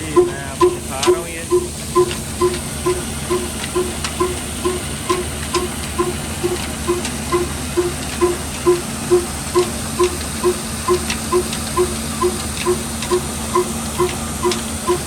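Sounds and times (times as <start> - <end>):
diesel engine running: 0.0 - 15.0
mill hissing and whirring: 0.0 - 15.0.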